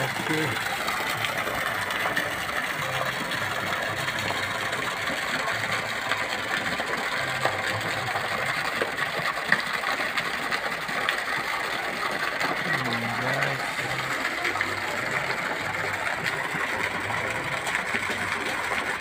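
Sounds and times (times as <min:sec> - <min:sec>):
fountain splashing into pond: 0:00.0 - 0:19.0.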